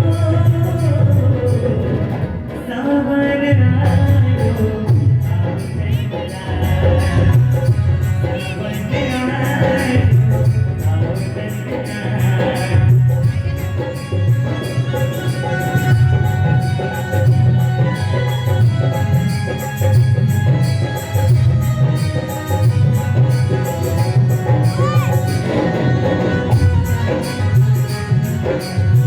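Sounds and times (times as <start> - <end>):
jingling percussion: 0.0 - 2.3, 3.8 - 29.0
hand drum beat: 3.6 - 29.0
sustained instrumental tones: 4.7 - 29.0.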